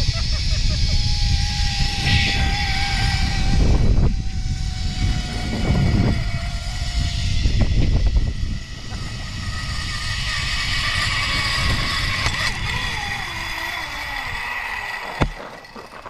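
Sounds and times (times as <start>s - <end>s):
wind rumble on microphone: 0.0s - 16.0s
zipline pulleys whining: 0.0s - 16.0s.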